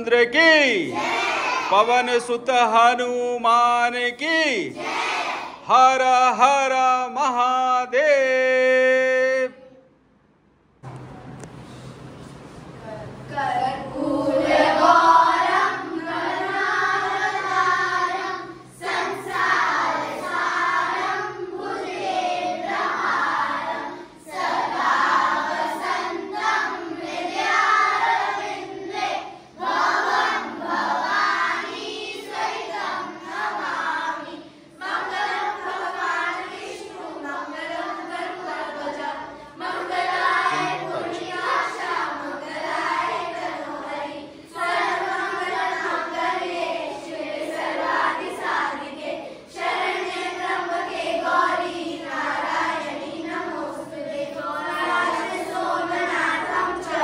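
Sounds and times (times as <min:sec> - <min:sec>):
children singing a chant: 0:00.9 - 0:02.1, 0:04.7 - 0:05.9, 0:13.3 - 0:57.0.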